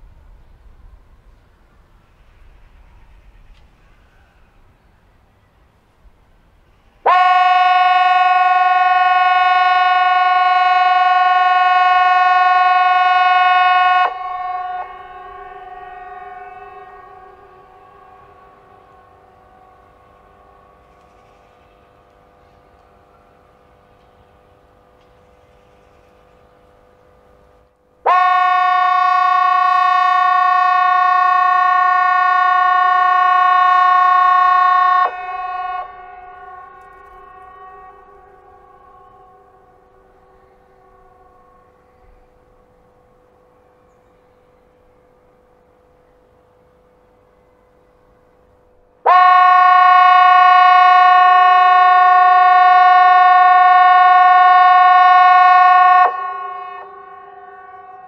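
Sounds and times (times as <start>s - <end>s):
alarm horn steady tone: 0.0s - 58.0s
distant alarm horns: 0.0s - 58.0s.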